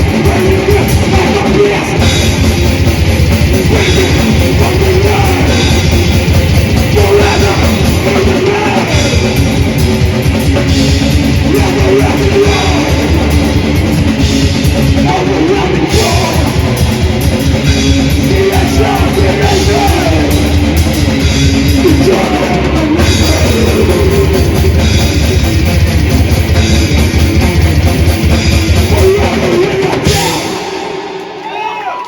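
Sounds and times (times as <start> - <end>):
fast drum beats with cymbals: 0.0 - 31.4
distorted electric guitars: 0.0 - 32.0.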